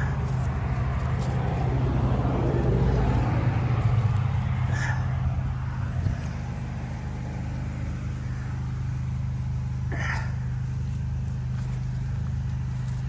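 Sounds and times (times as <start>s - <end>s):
pressure washer machine drone: 0.0s - 13.0s.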